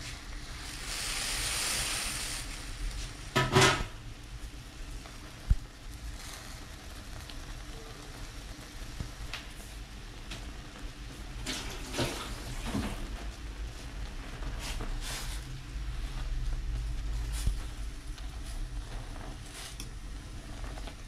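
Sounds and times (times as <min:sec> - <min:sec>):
broth boiling in a pot: 0:00.0 - 0:21.0.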